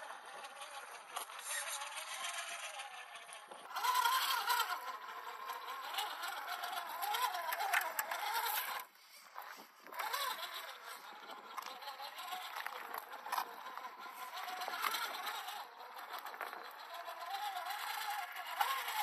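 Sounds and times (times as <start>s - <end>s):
electric motor whining: 0.0s - 19.0s
small clicks and scrapes: 0.0s - 19.0s.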